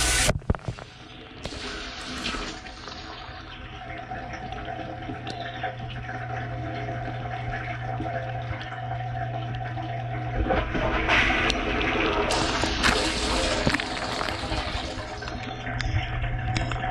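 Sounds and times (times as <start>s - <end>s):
pump motor humming: 0.0s - 16.9s
water churning: 0.0s - 16.9s.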